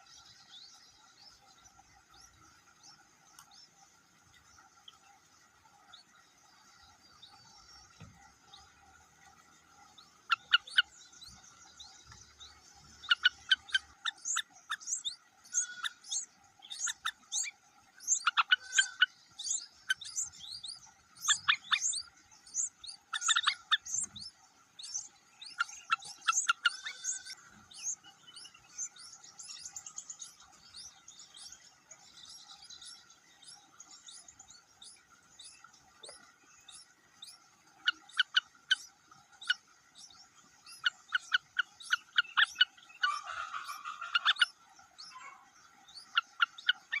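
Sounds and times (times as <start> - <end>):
faint steady drone: 0.0 - 47.0
baby birds chirping: 7.1 - 47.0.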